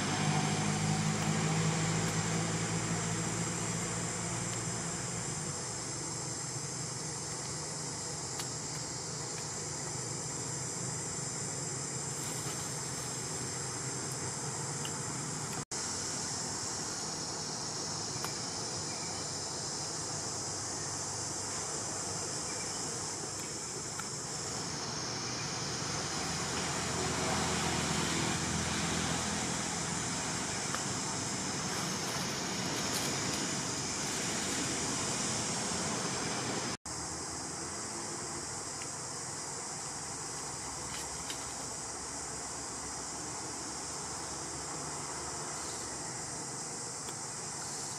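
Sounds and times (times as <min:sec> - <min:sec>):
high insect drone: 0:00.0 - 0:47.9.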